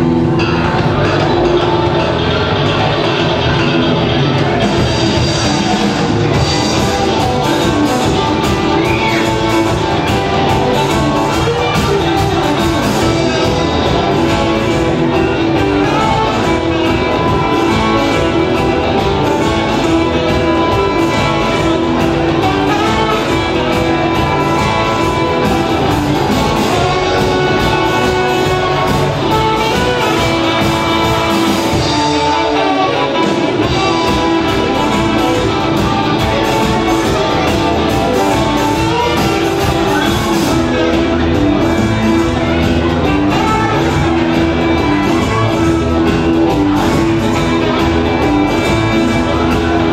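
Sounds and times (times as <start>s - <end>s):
bass: 0.0s - 49.9s
drums: 0.0s - 49.9s
electric guitars: 0.0s - 49.9s
keyboards: 0.0s - 49.9s
saxophone: 0.0s - 49.9s.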